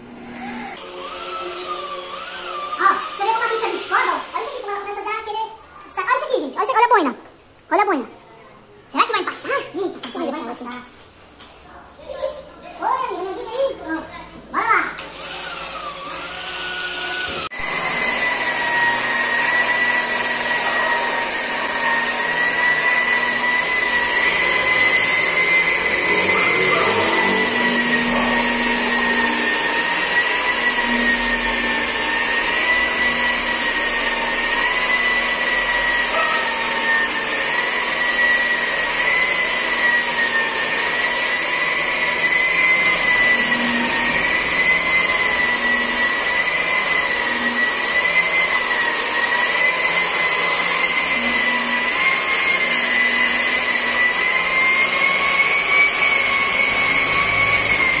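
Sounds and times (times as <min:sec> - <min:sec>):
car polisher motor whine: 0:00.0 - 0:04.3, 0:15.0 - 0:58.0.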